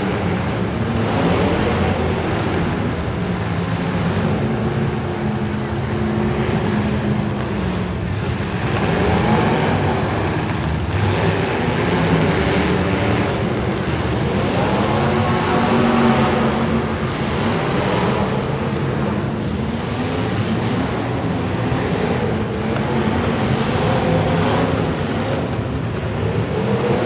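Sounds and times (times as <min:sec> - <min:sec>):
car engines running and revving: 0:00.0 - 0:27.0.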